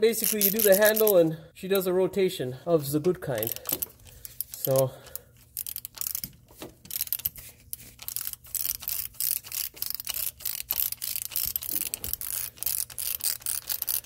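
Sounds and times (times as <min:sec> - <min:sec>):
ratchet clicking rapidly: 0:00.1 - 0:01.2, 0:03.4 - 0:14.0.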